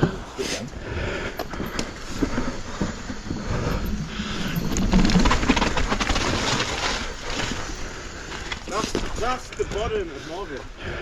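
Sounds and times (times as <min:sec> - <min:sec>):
bike clicks and rattles: 0:00.0 - 0:10.7
bike tyres on rough trail: 0:00.0 - 0:11.0.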